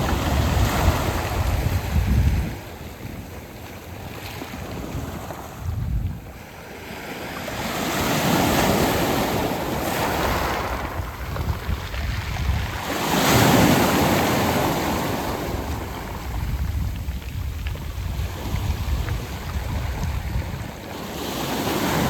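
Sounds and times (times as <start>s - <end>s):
sea waves washing over pebbles: 0.0s - 22.0s.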